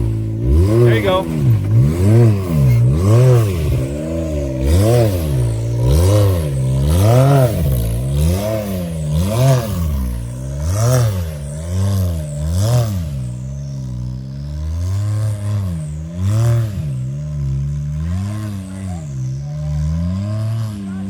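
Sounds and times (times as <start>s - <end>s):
engine revving in throttle blips: 0.0s - 21.0s.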